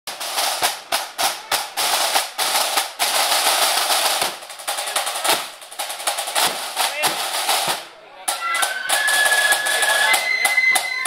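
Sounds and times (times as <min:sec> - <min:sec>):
snare drums rolling: 0:00.1 - 0:11.0.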